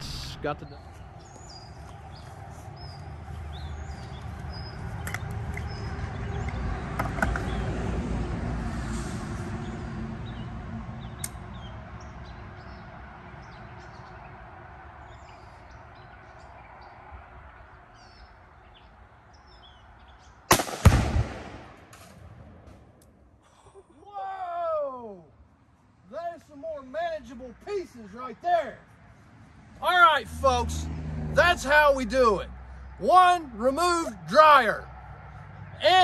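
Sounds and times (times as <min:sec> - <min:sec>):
birds chirping: 0:00.0 - 0:07.8, 0:09.5 - 0:20.7, 0:23.5 - 0:36.0.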